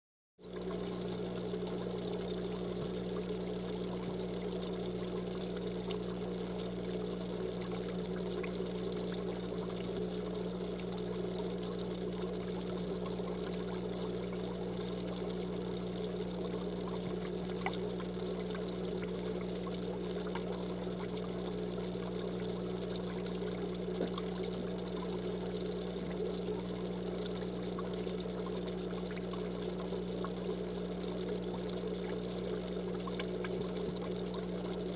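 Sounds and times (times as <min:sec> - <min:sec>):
trickle of falling water: 0:00.4 - 0:34.9.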